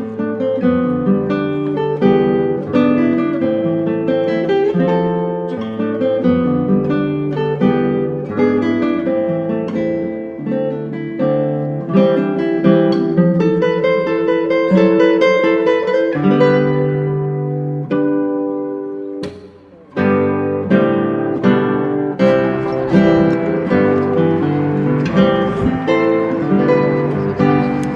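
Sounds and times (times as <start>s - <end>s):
acoustic guitar picking and strumming: 0.0s - 27.9s.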